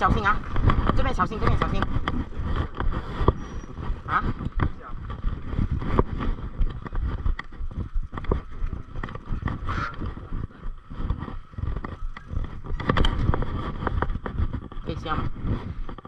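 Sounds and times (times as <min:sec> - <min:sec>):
bike rattling and knocking: 0:00.0 - 0:16.0
wind rumbling on microphone: 0:00.0 - 0:16.0.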